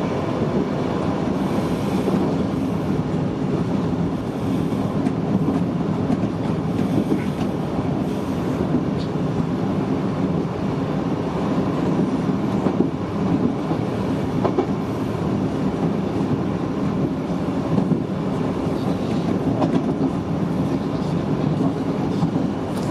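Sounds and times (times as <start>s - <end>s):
train wheels running on rail: 0.0s - 22.9s.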